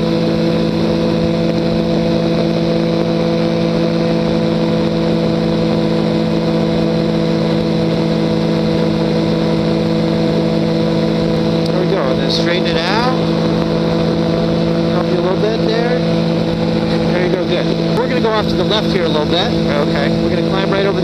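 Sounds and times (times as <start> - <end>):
microlight engine and propeller hum: 0.0 - 21.0.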